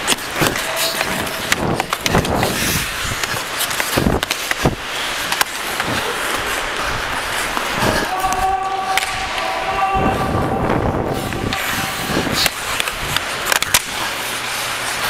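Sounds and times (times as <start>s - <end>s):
hockey sticks and puck clacking: 0.0s - 15.0s
skates scraping ice: 0.0s - 15.0s.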